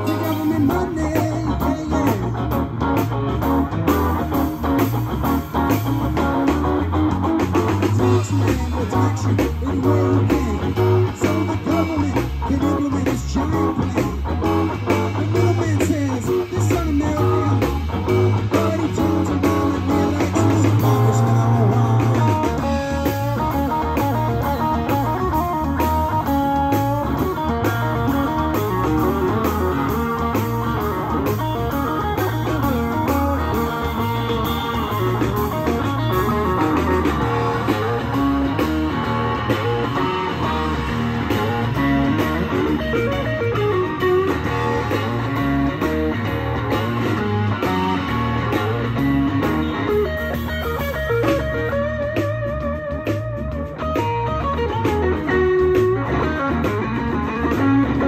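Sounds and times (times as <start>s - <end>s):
bass guitar: 0.0s - 58.0s
drums: 0.0s - 58.0s
electric guitars: 0.0s - 58.0s
keyboard: 0.0s - 58.0s.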